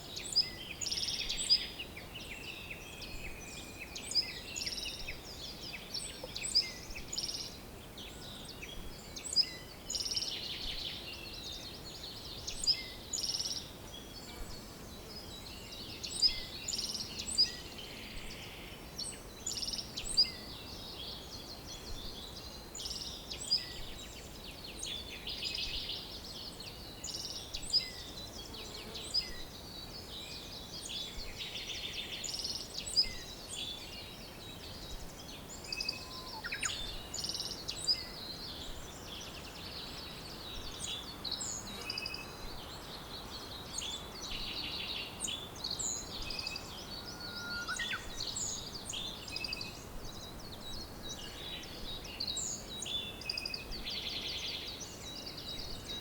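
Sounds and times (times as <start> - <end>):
faint background hiss: 0.0 - 56.0
songbirds chirping and trilling: 0.0 - 56.0.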